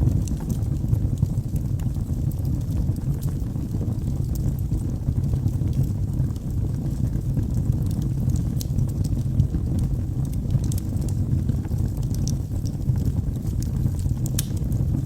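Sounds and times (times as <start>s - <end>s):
low rumble of flames: 0.0s - 15.0s.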